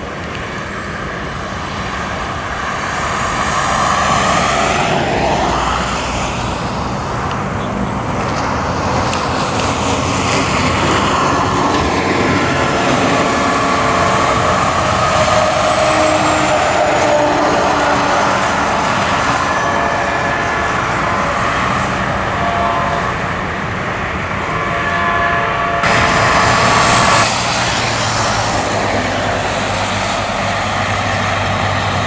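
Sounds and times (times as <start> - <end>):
diesel locomotive engines droning: 0.0 - 32.0.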